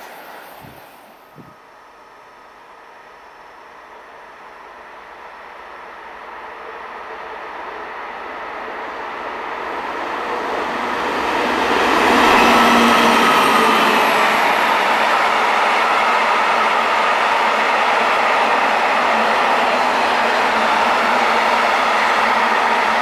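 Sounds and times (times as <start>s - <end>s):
diesel locomotive passing: 0.0s - 23.0s.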